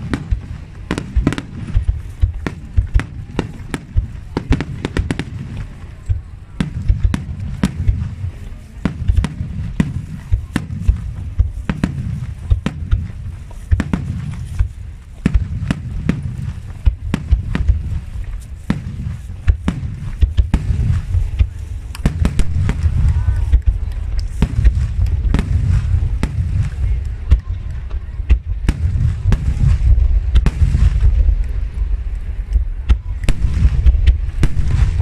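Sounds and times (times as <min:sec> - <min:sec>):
continuous low rumble: 0:00.0 - 0:35.0
firework shells bursting: 0:00.0 - 0:35.0.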